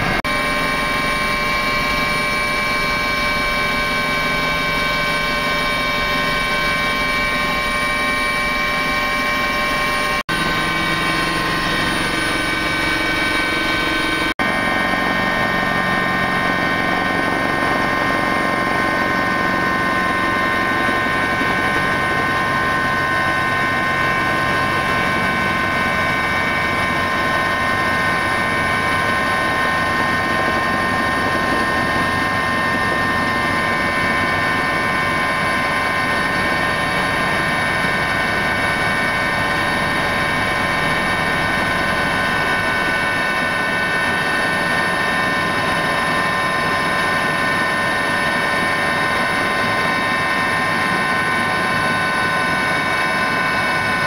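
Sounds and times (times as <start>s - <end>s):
helicopter engine whine: 0.0s - 54.0s.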